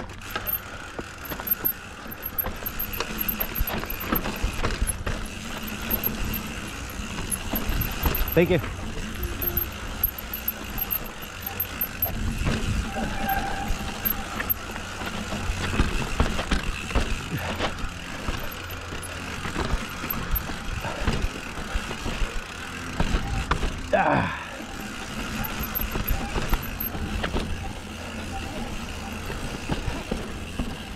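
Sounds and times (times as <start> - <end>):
bike rattling and knocking: 0.0 - 30.9
tyres crunching over dirt: 0.0 - 30.9.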